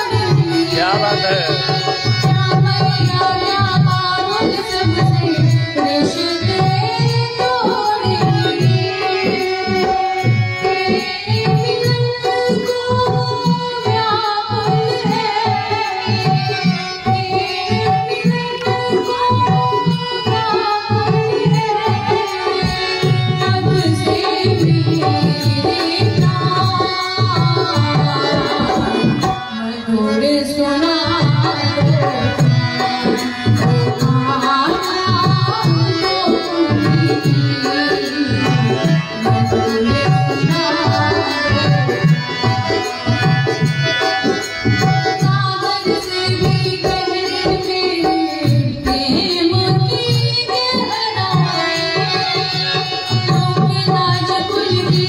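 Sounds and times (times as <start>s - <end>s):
person singing a melody: 0.0s - 55.0s
tabla playing a rhythm: 0.0s - 55.0s.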